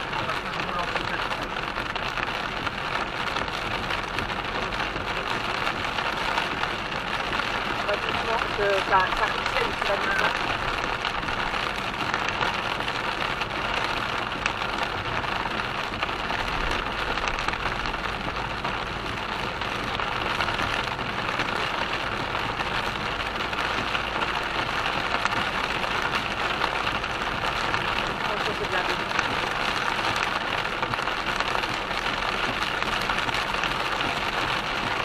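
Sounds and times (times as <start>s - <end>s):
rain beating on a car: 0.0s - 35.0s
water streaming over road: 0.0s - 35.0s.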